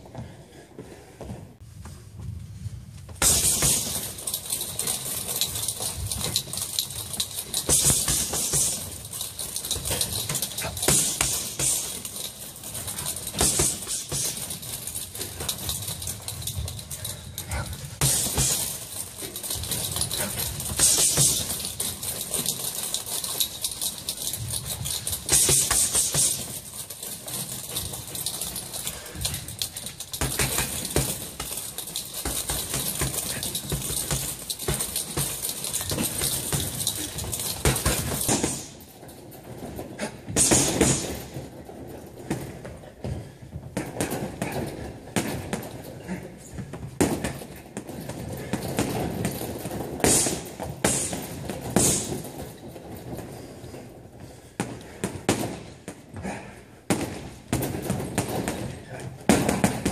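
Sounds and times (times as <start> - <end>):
boxing gloves hitting heavy bags: 3.1 - 59.9.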